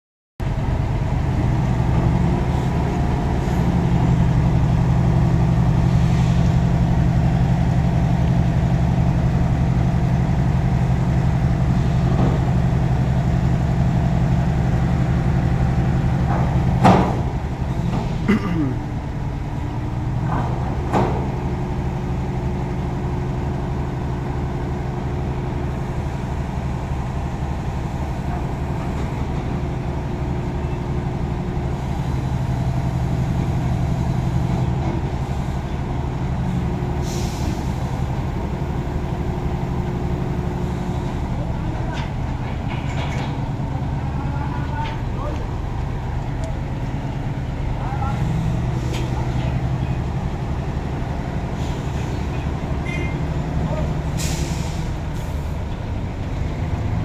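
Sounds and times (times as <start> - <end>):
diesel engine idling: 0.4 - 57.0.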